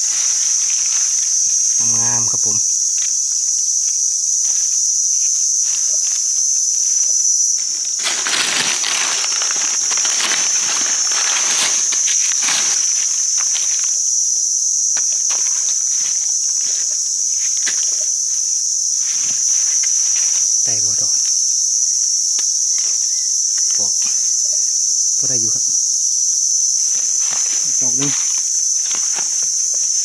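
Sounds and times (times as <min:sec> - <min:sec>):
rustling in dry leaves: 0:00.0 - 0:25.7
insects droning: 0:00.0 - 0:30.0.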